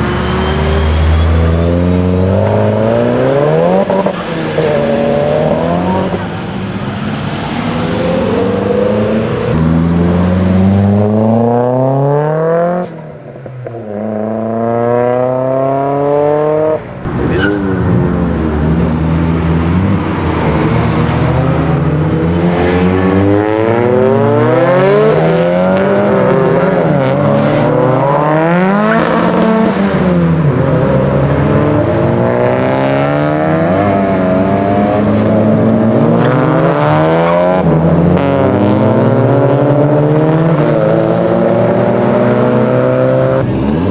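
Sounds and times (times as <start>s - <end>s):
car engine revving hard: 0.0s - 6.5s, 14.0s - 43.9s.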